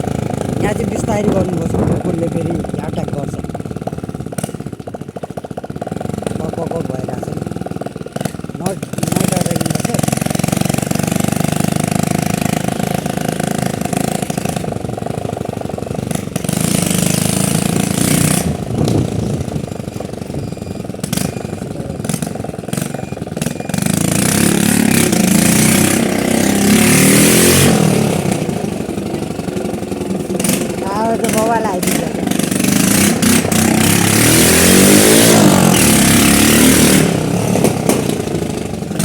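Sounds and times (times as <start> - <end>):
unmuffled motorcycle engine: 0.0 - 39.0.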